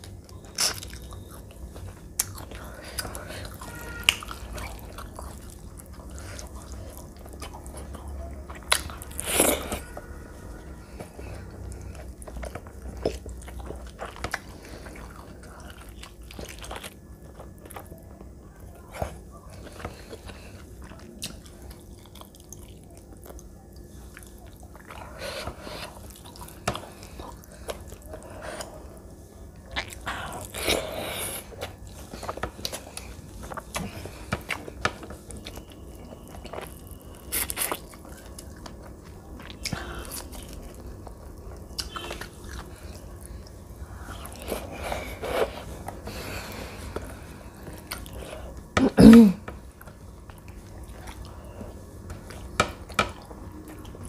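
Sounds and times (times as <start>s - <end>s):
chewing and mouth sounds: 0.0s - 48.7s, 49.5s - 54.0s.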